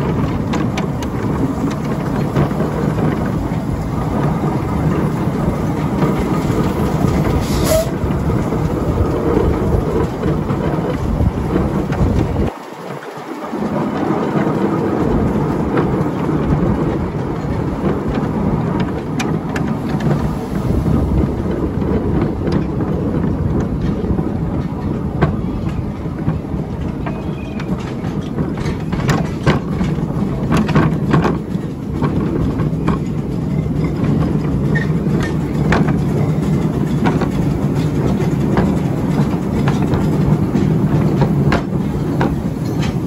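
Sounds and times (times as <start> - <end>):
miniature train rumbling on rails: 0.0 - 43.0
wheels clicking over rail joints: 0.0 - 43.0.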